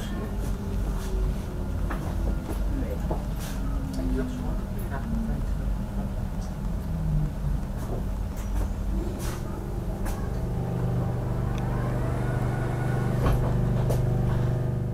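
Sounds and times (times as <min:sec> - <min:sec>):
low equipment hum: 0:00.0 - 0:14.9
train rumble: 0:00.0 - 0:14.9.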